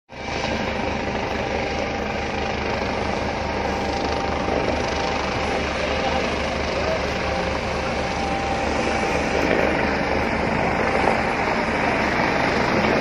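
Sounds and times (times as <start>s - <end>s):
helicopter rotor beating: 0.1s - 13.0s.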